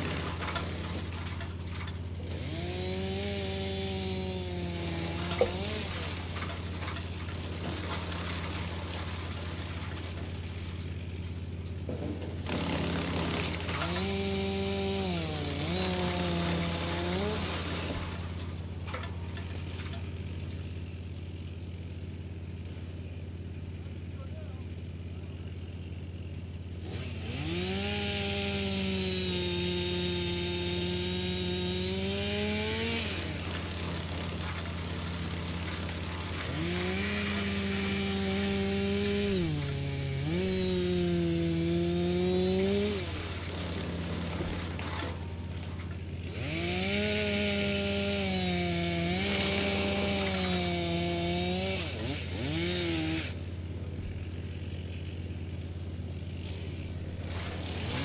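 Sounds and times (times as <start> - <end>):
wood chipper chipping wood: 0.0 - 58.0
wood chipper humming: 0.0 - 58.0.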